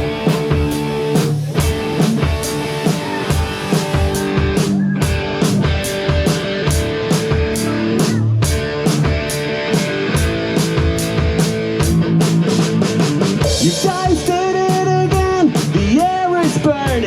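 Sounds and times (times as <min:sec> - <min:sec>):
bass guitar: 0:00.0 - 0:17.0
drum kit fast beat: 0:00.0 - 0:17.0
electric guitars: 0:00.0 - 0:17.0
lead guitar bending notes: 0:00.0 - 0:17.0.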